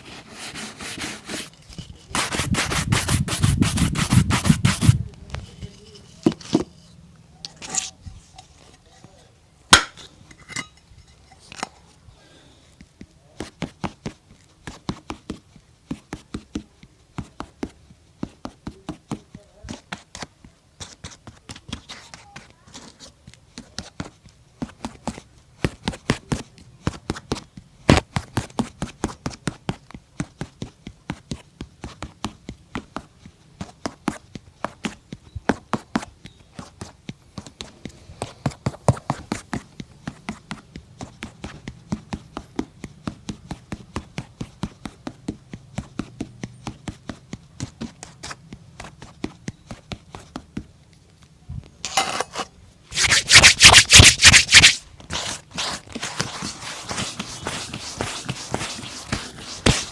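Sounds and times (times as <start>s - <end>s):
cobbler working a shoe by hand: 0.0s - 11.8s, 12.7s - 50.8s, 51.8s - 59.9s.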